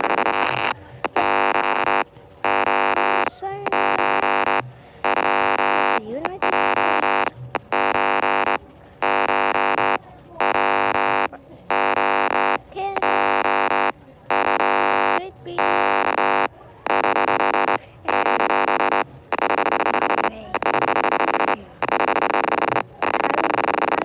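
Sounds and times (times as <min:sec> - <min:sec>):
harsh electronic alarm buzzer: 0:00.0 - 0:24.0.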